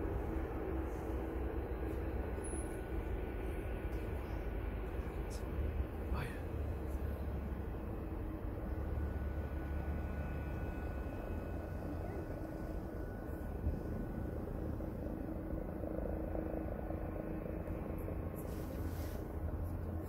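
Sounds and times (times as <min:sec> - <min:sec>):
distant jet aircraft rumble: 0:00.0 - 0:20.0
faint high whine: 0:00.0 - 0:20.0.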